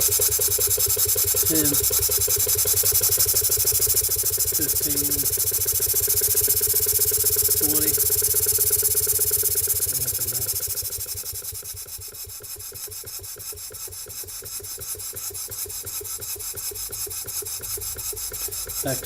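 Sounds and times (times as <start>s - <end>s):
model steam engine exhaust beating: 0.0s - 19.0s.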